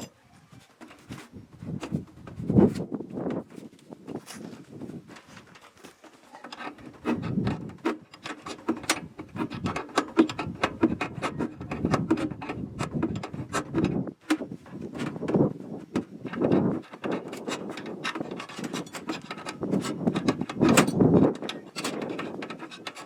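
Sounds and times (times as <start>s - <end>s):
tools knocking and scraping: 0.0s - 23.0s.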